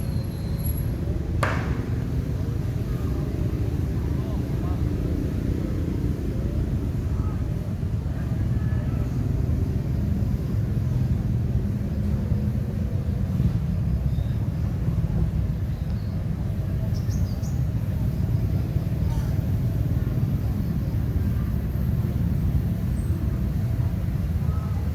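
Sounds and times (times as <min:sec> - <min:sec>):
vehicle engines rumbling: 0:00.0 - 0:24.9.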